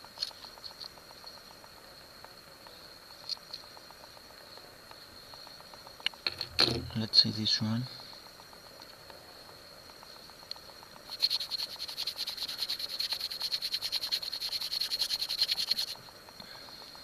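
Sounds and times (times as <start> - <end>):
high-pitched insect drone: 0.0 - 17.0
pulsed insect trill: 0.0 - 17.0.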